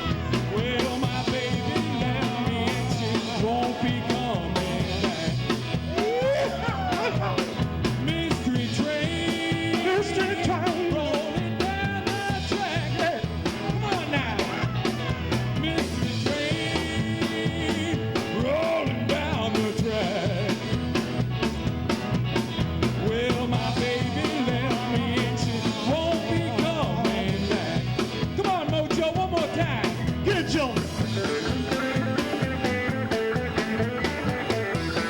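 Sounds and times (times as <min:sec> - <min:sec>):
person singing: 0:00.0 - 0:20.7, 0:22.9 - 0:35.0
live rock band playing: 0:00.0 - 0:35.0
steady drum beat: 0:00.0 - 0:35.0.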